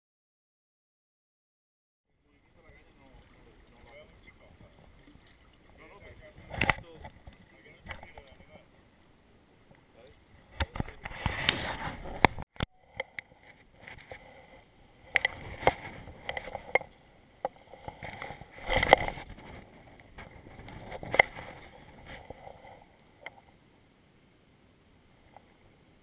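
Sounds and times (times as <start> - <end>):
water moving: 2.2 - 23.7.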